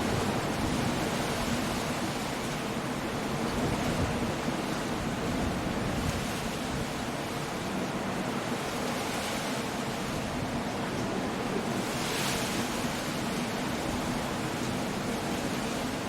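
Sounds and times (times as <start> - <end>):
rain: 0.0 - 16.0
stormy surf: 0.0 - 16.0
wind: 0.0 - 16.0.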